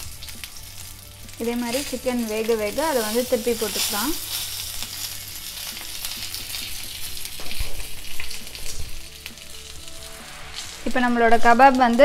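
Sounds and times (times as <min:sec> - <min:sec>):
kebabs sizzling in oil: 0:00.0 - 0:12.0.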